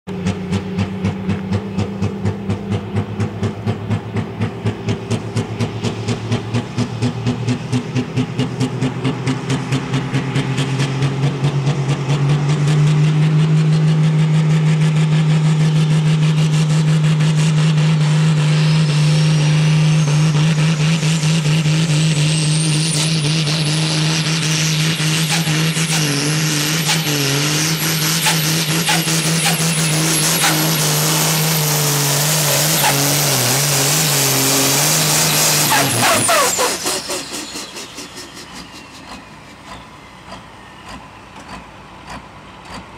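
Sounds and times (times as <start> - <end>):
diesel tractor engine revving: 0.0 - 42.9.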